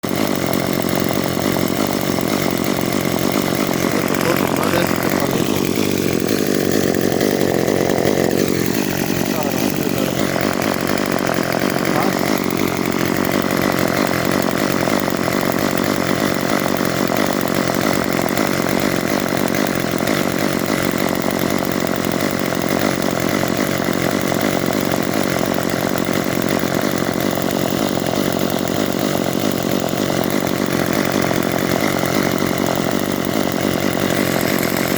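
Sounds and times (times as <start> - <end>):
chainsaw running at high revs: 0.0 - 34.9.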